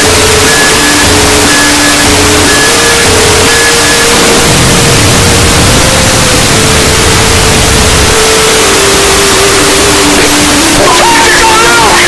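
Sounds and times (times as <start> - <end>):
loud distorted static noise: 0.0 - 12.0.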